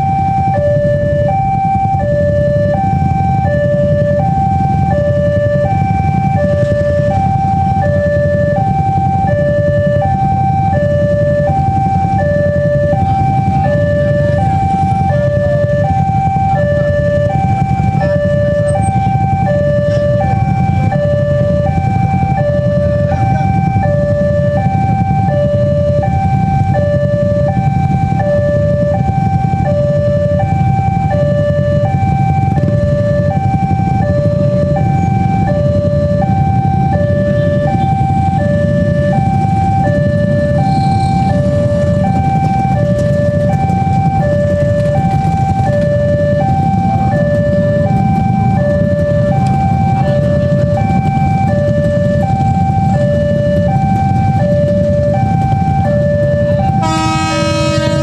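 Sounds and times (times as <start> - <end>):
two-tone crossing alarm: 0.0 - 58.0.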